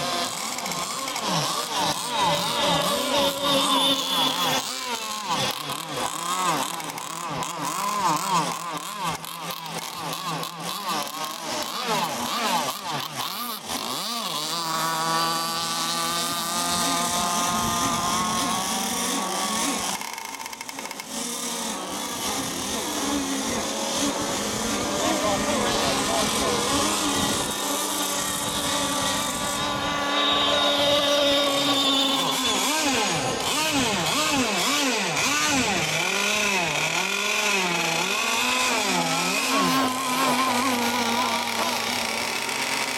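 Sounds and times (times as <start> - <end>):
racing boat engines: 0.0 - 42.9.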